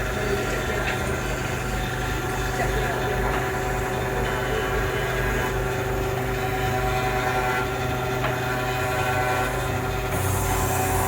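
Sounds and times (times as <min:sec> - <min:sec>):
workshop machine humming: 0:00.0 - 0:11.0.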